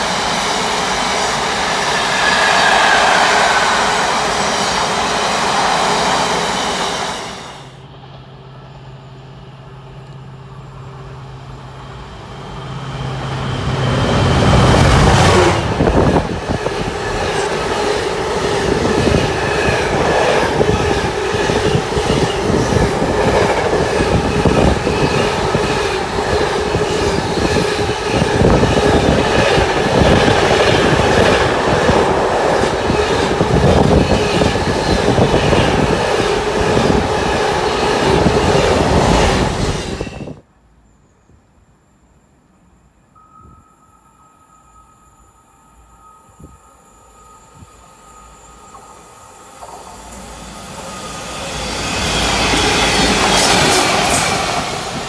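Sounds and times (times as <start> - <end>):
wheels ringing on rails: 0.0 - 40.4, 43.0 - 55.0
freight train passing: 0.0 - 40.5, 42.3 - 55.0.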